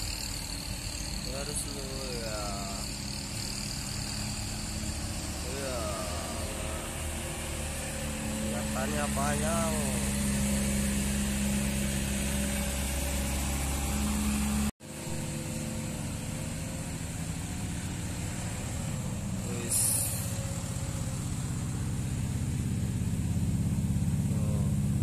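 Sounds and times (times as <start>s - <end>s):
vehicle engines labouring uphill: 0.0s - 25.0s.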